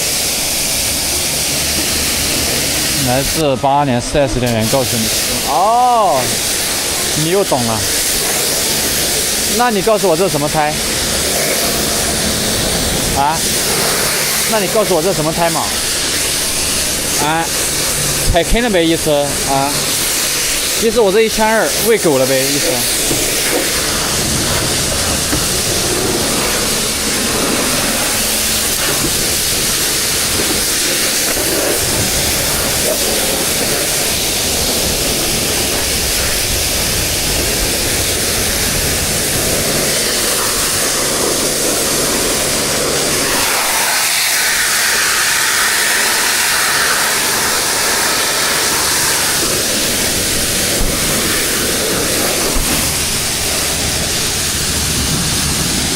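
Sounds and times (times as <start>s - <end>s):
pressure washer spraying water: 0.0s - 55.9s.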